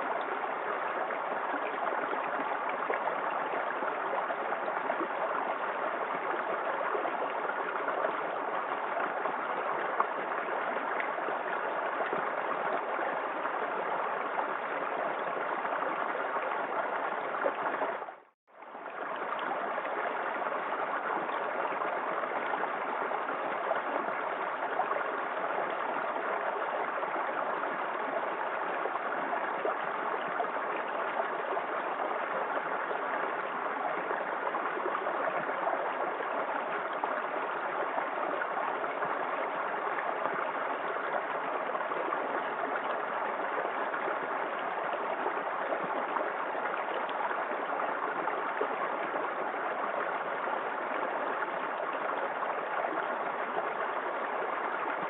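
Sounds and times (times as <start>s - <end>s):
water splashing and running: 0.0s - 55.0s.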